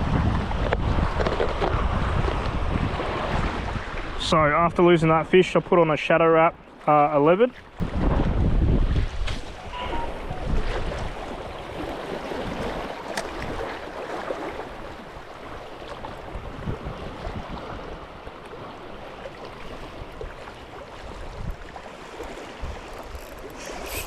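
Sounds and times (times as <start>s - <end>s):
wind rumble on microphone: 0.0s - 4.9s, 7.8s - 13.9s, 14.6s - 24.0s
water lapping on shore: 0.1s - 24.0s.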